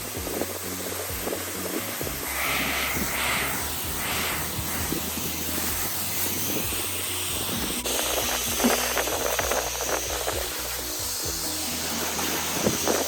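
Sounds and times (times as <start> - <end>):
background music: 0.0 - 13.0
pressure washer spray hissing: 0.0 - 13.0.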